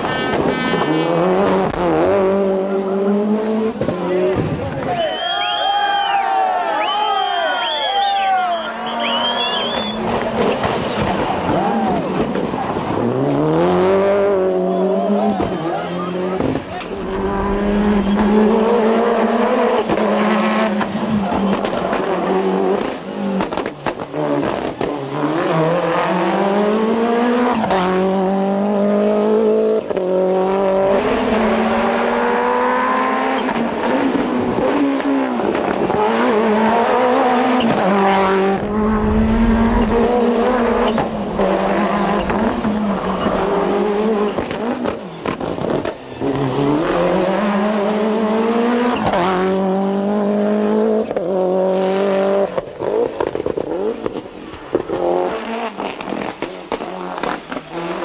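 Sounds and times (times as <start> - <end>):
rally car engine revving: 0.0 - 4.5, 9.0 - 58.0.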